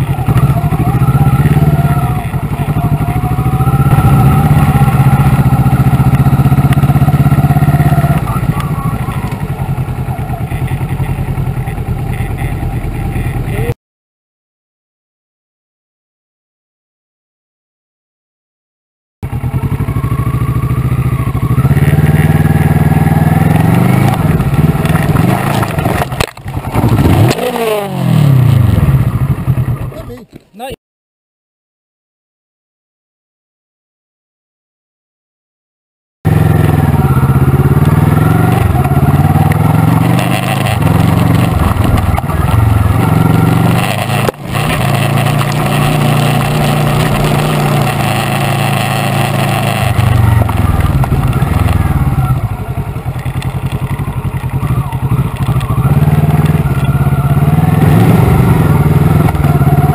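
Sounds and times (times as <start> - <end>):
motorcycle engine running: 0.0 - 13.8, 19.2 - 30.2, 36.3 - 59.9.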